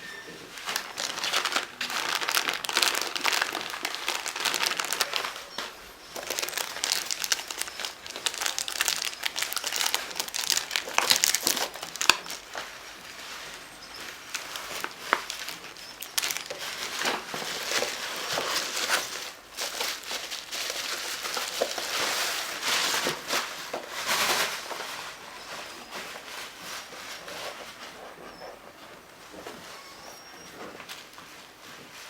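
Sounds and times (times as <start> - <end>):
packaging crinkling and rustling: 0.3 - 32.0.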